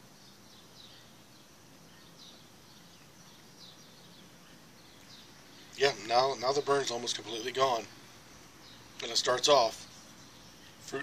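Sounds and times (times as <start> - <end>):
faint bird chirps: 0.0 - 11.0
low steady hiss: 0.0 - 11.0.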